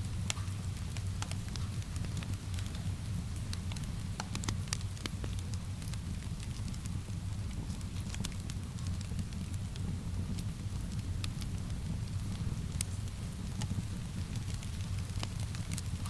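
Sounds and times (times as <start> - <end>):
soft rain: 0.0 - 16.0
wood fire crackling and popping: 0.1 - 16.0.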